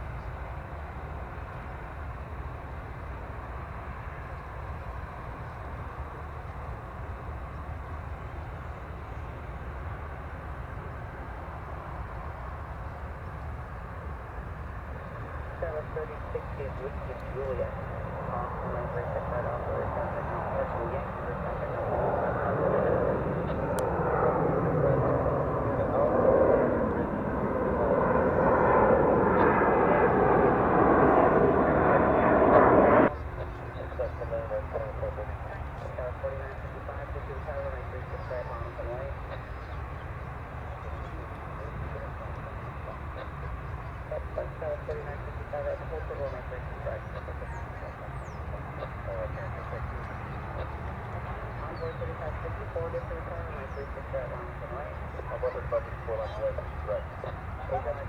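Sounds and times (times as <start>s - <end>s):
distant jet engines rumbling: 9.9s - 58.0s.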